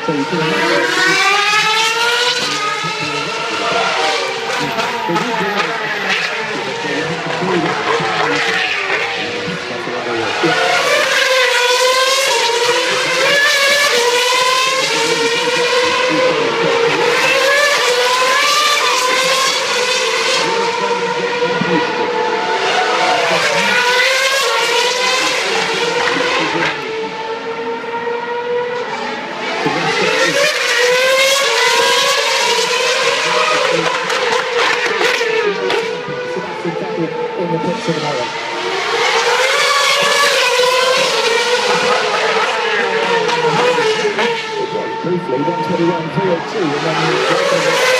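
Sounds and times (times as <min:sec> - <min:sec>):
racing car engines revving: 0:00.0 - 0:47.9.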